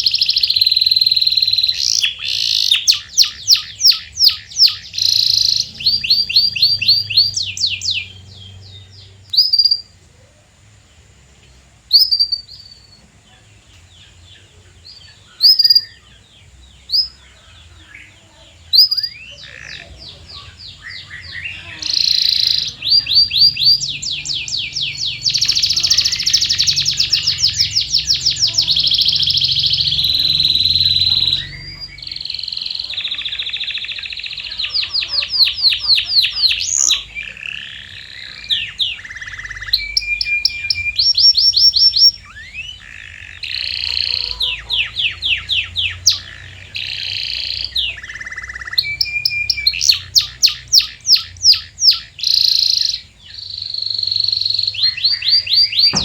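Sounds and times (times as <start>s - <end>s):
canary singing rapid trills: 0.0s - 10.0s, 11.8s - 56.0s.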